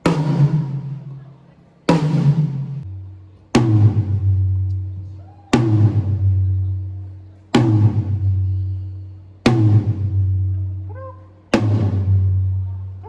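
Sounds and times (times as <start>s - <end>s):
low drum hits ringing: 1.9s - 12.7s.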